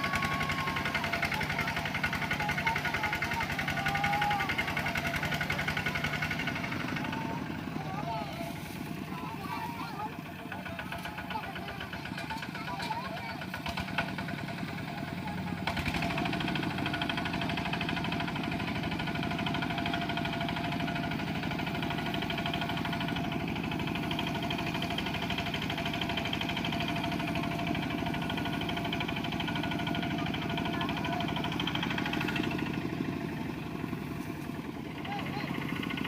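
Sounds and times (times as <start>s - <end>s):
diesel engine chugging: 0.0s - 36.0s.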